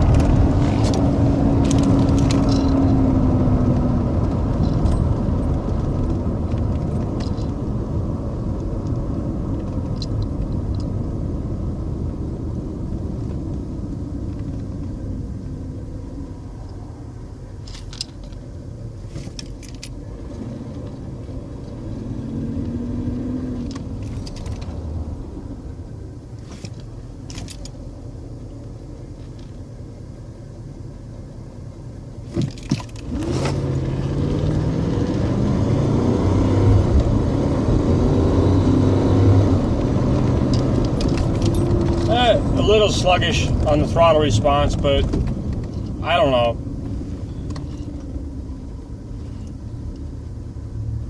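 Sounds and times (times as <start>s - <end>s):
car engine from inside cabin: 0.0s - 51.0s.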